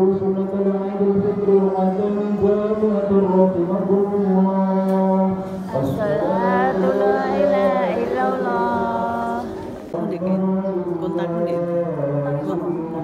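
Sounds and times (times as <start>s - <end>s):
man chanting prayer call: 0.0s - 13.0s.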